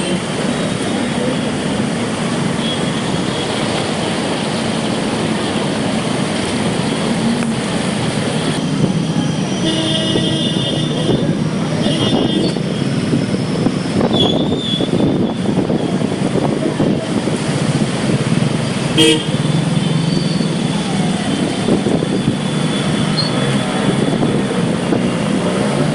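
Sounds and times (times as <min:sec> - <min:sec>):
vehicles driving through water: 0:00.0 - 0:25.9.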